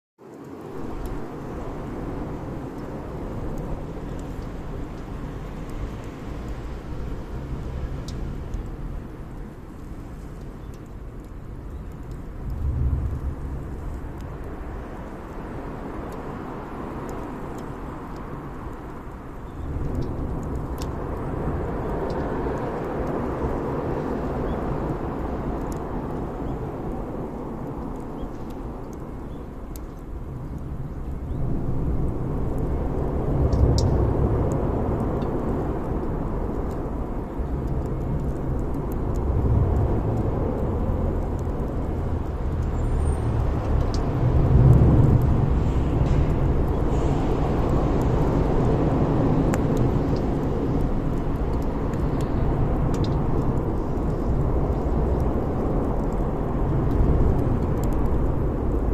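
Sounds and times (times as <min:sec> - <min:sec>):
bonfire crackling and popping: 0:00.3 - 0:58.9
fire low rumbling: 0:00.4 - 0:58.9.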